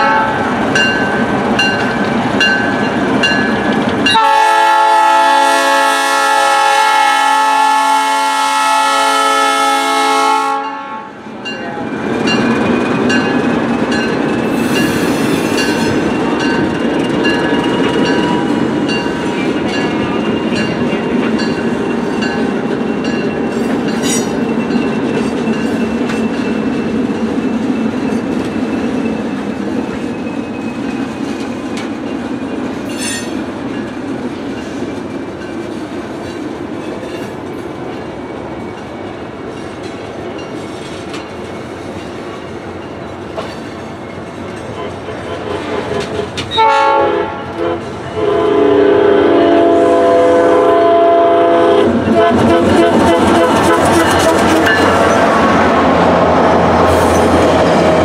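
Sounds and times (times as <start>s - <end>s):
train wheels rattling over track: 0.0s - 4.3s, 11.3s - 48.4s, 51.7s - 58.0s.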